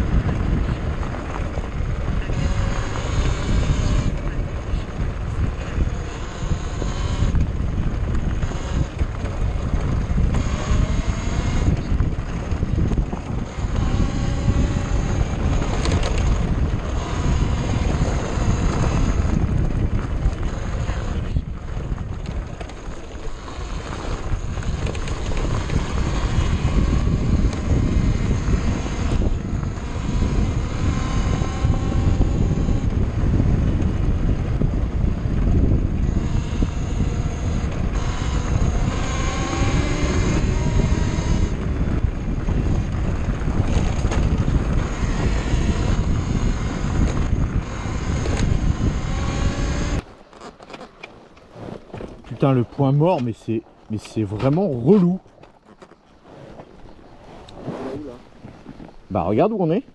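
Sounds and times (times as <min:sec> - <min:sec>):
motorcycle engine revving: 0:00.0 - 0:50.1
wind buffeting microphone: 0:00.0 - 0:50.3.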